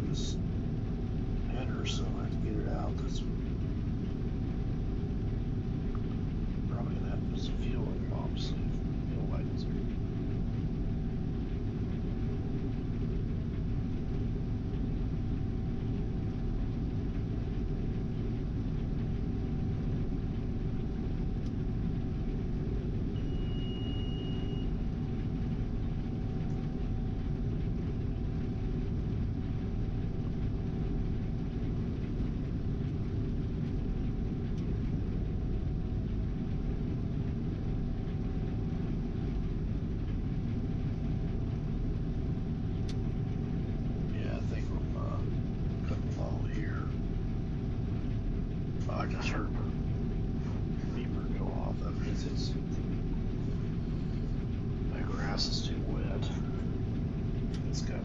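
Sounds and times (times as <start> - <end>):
combine harvester droning: 0.0 - 58.0
faint steady whine: 0.0 - 58.0.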